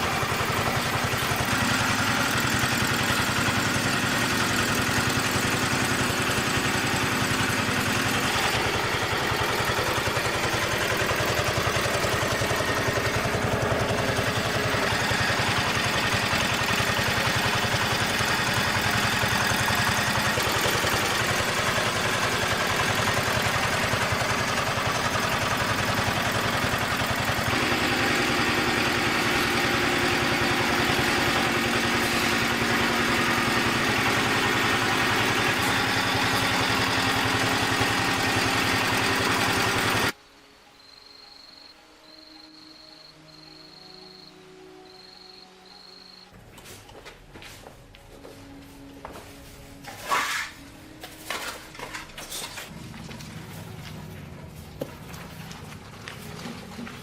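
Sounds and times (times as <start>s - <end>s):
diesel engine running: 0.0s - 40.2s, 50.6s - 57.0s.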